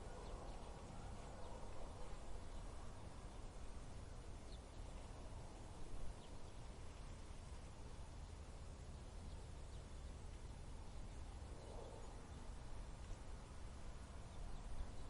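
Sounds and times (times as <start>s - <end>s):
faint wind with low rumble: 0.0s - 15.0s.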